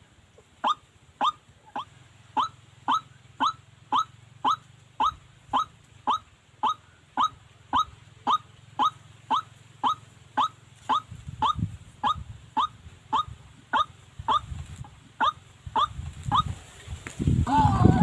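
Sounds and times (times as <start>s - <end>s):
bird calling kwak notes: 0.6s - 16.6s.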